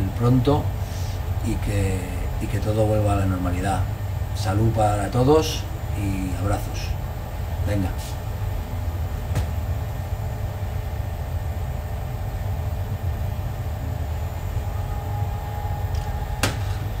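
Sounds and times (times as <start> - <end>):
kitchen ventilation rumble: 0.0 - 17.0.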